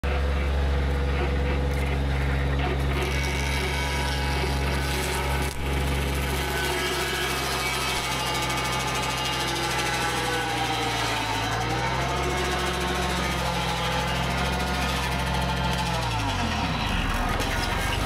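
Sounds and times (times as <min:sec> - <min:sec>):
saw blade grinding through wood: 0:00.0 - 0:18.0
tractor engine droning: 0:00.0 - 0:18.0.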